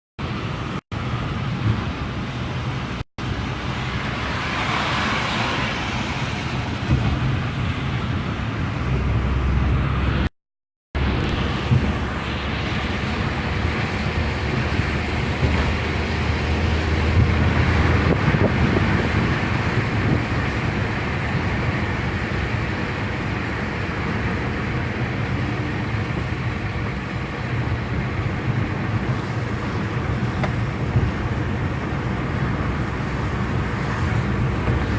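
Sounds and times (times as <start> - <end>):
car engine and tyre noise: 0.2 - 10.3, 11.0 - 34.9.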